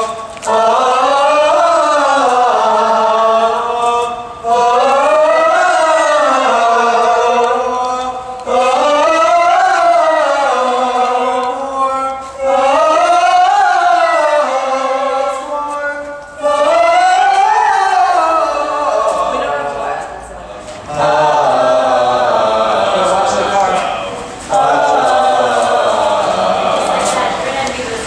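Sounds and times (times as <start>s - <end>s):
a cappella group singing: 0.0s - 28.0s.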